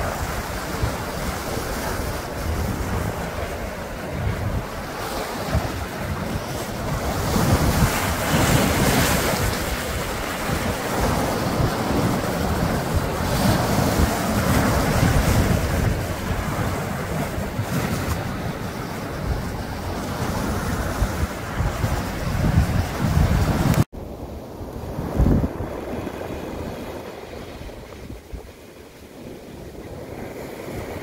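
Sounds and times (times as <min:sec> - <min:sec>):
low wind rumble on microphone: 0:00.0 - 0:31.0
waves washing over rocky shore: 0:00.0 - 0:31.0.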